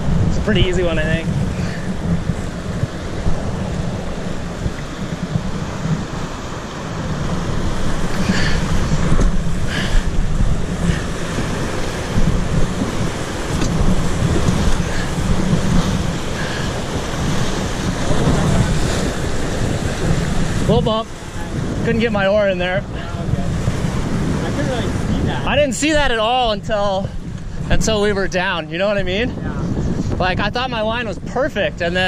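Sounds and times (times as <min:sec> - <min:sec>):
rapids rushing and splashing: 0:00.0 - 0:32.0
wind buffeting microphone: 0:00.0 - 0:32.0.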